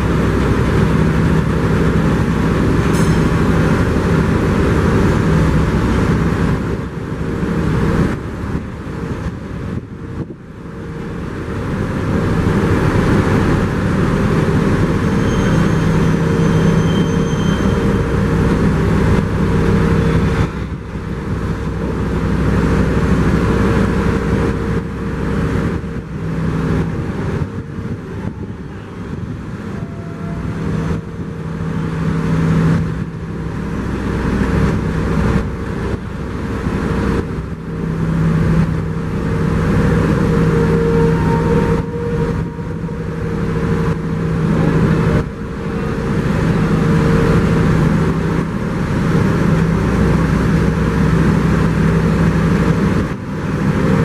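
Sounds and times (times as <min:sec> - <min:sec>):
heavy engine running: 0:00.0 - 0:54.0.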